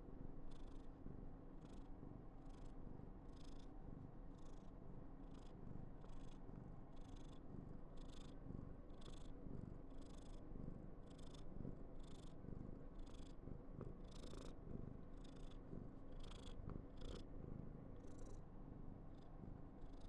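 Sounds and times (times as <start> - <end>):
cat purring: 0.1 - 20.0.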